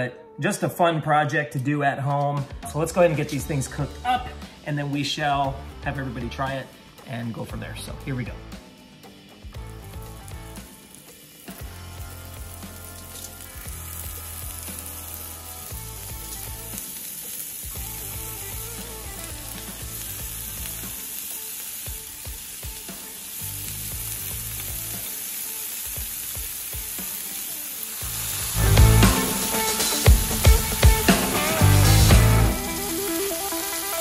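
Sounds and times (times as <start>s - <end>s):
music: 0.0s - 34.0s
bacon sizzling on a griddle: 6.4s - 34.0s.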